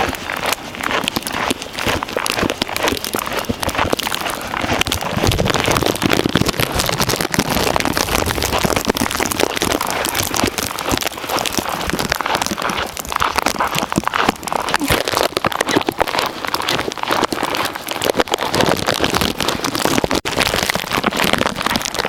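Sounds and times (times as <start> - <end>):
boots crunching through snow: 0.0 - 19.7.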